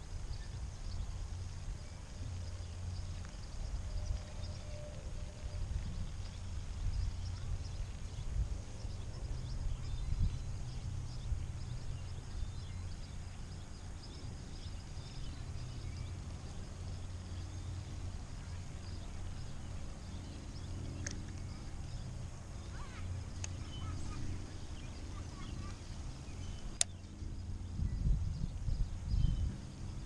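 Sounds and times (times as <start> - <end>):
small birds chirping: 0.0 - 30.0
wind rumbling on microphone: 0.0 - 30.0.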